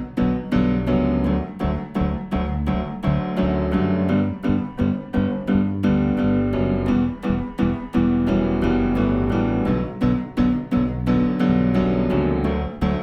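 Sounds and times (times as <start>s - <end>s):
electric piano chords: 0.0s - 13.0s
guitar: 0.0s - 13.0s
steady bass pulse: 0.0s - 13.0s.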